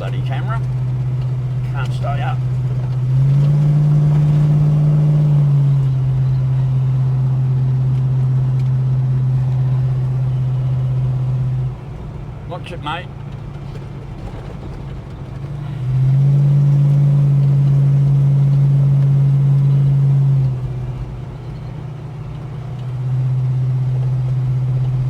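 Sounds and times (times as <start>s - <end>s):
car engine and road noise drone: 0.0s - 25.0s.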